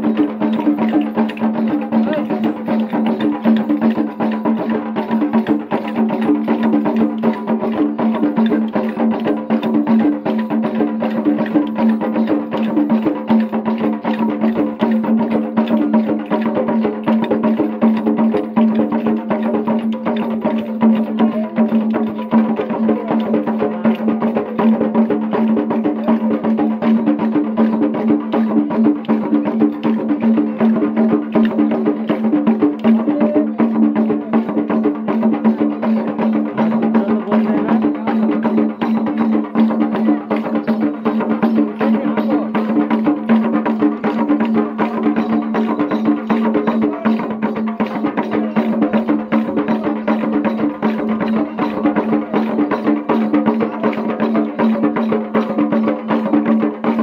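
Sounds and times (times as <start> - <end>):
clicking percussion: 0.0 - 57.0
drumming: 0.0 - 57.0.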